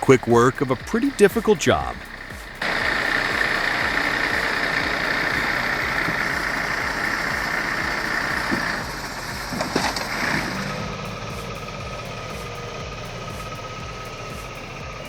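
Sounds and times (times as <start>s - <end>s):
high-pitched hiss: 0.0s - 15.0s
truck diesel engine running: 0.0s - 15.0s.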